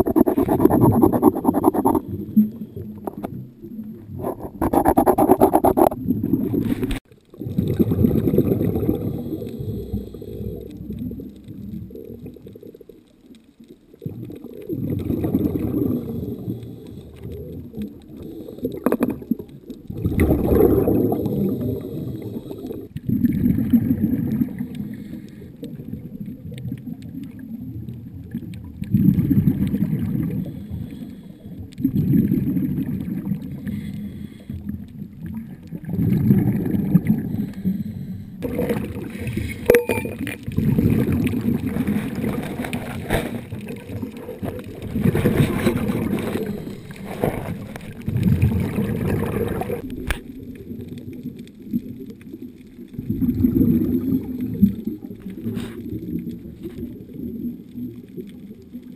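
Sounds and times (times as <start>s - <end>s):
underwater air bubbling: 0.0s - 58.9s.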